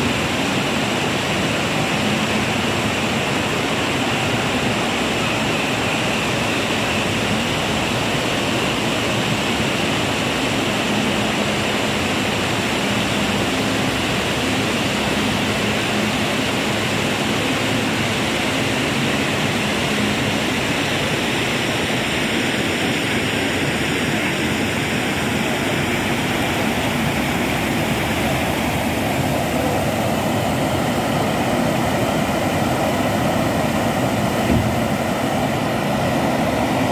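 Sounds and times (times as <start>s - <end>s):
stream rushing: 0.0s - 36.9s
water spilling over weirs: 0.0s - 36.9s.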